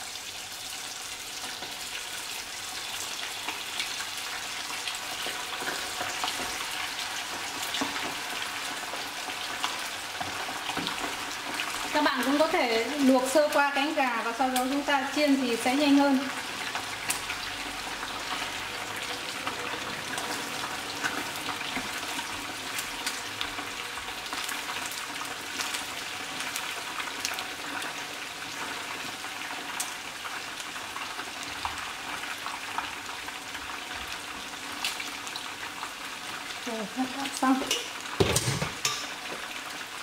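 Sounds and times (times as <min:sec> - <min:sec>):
deep-frying sizzle with pops: 0:00.0 - 0:40.0.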